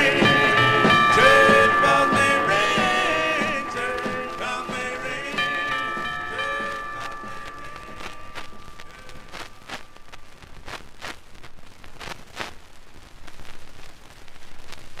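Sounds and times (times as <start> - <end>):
vinyl record hiss: 0.0 - 15.0.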